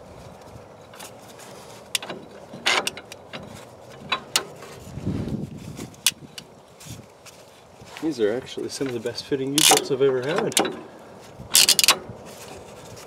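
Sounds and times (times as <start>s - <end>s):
handling rustle: 0.0s - 13.0s.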